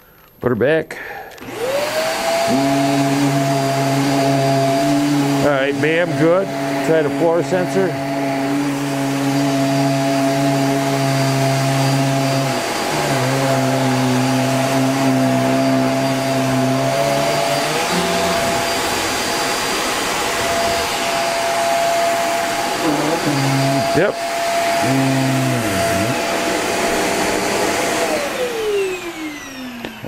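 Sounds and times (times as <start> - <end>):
high steady vacuum tone: 0.9 - 30.0
vacuum cleaner humming: 1.3 - 30.0.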